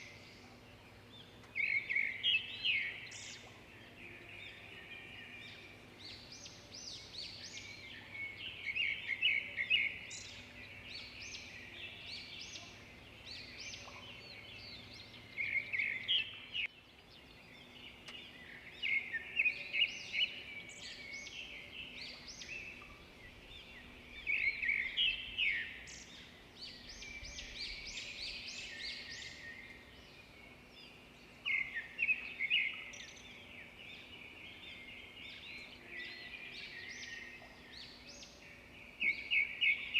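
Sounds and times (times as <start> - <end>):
faint steady background noise: 0.0 - 39.9
songbirds chirping and trilling: 0.0 - 39.9.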